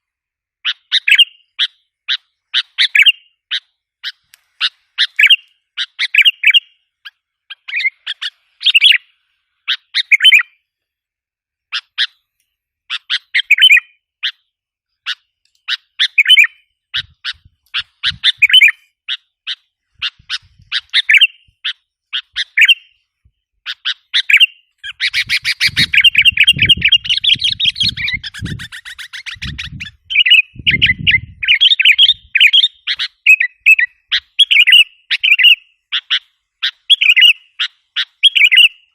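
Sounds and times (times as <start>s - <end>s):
bird chirping: 0.6s - 11.0s, 11.7s - 38.9s.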